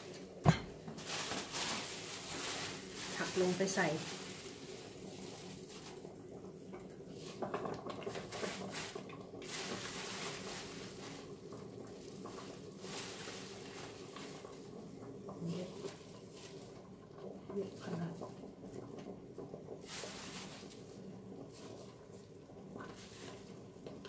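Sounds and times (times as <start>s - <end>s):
plastic bag rustling: 0.0s - 16.9s, 19.8s - 23.8s
leafy greens crackling: 0.0s - 19.1s, 19.8s - 24.0s.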